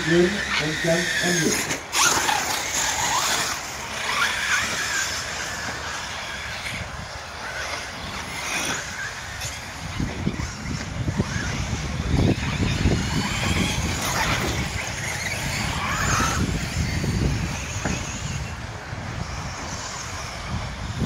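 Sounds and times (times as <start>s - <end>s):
rc car motors whining: 0.0s - 21.0s.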